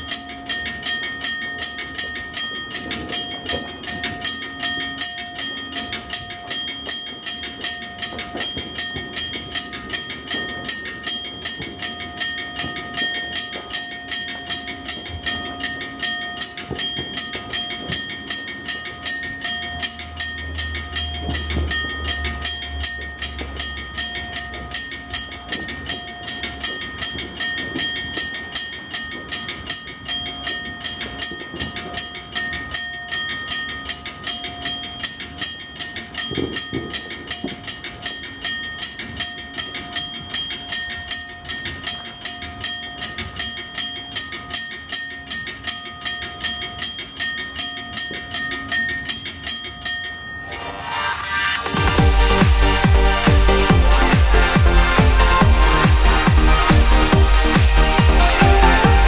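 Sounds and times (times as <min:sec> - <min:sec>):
railroad crossing bells ringing: 0:00.0 - 0:59.0.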